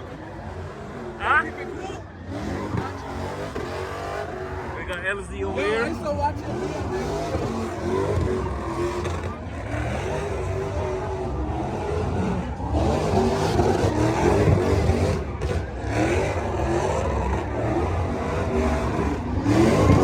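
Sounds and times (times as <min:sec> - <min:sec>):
car engines revving: 0:00.0 - 0:20.0
crowd chatter: 0:00.0 - 0:20.0.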